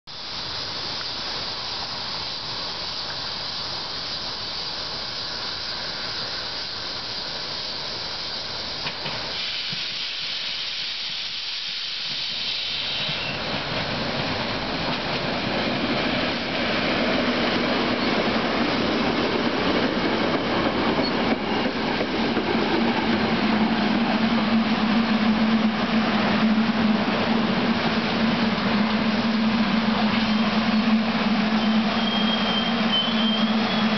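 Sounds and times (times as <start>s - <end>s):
train rushing past: 0.3s - 33.9s.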